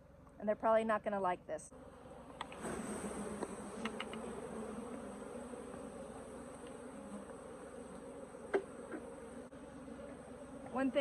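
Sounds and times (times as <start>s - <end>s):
bees buzzing: 1.7s - 11.0s.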